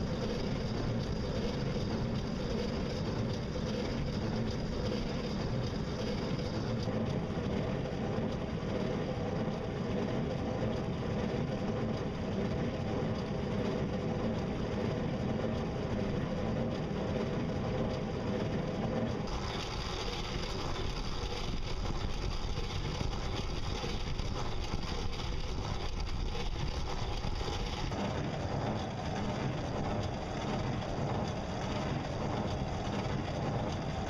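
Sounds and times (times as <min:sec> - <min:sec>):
steady low rumble: 0:00.0 - 0:34.0
water splashing along a hull: 0:00.0 - 0:34.0.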